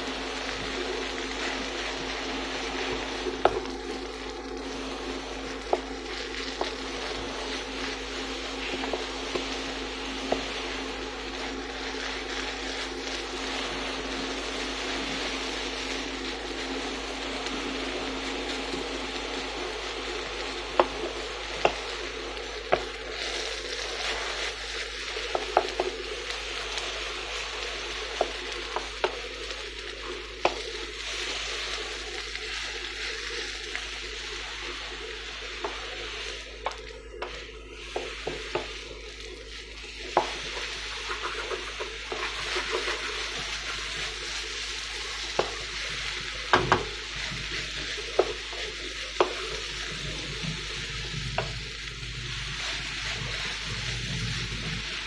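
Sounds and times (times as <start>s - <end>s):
rice sizzling in a pan: 0.0s - 55.0s
steady low hum: 0.0s - 55.0s.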